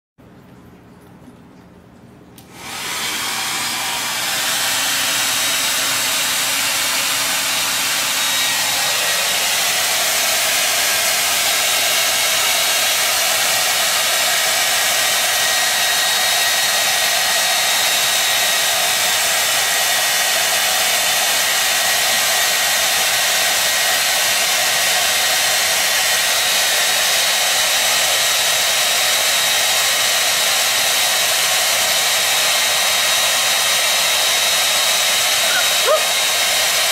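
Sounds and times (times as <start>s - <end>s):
hair dryer running: 2.4s - 36.9s.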